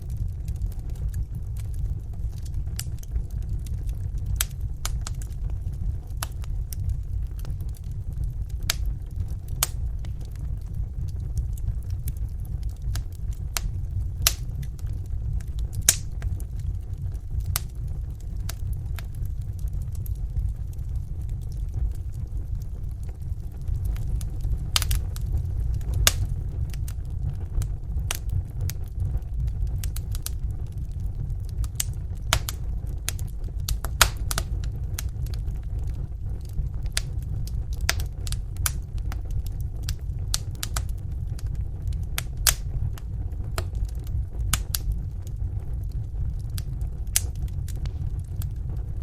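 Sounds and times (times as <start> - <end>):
fire crackling and popping: 0.0 - 49.0
low rumble: 0.0 - 49.0.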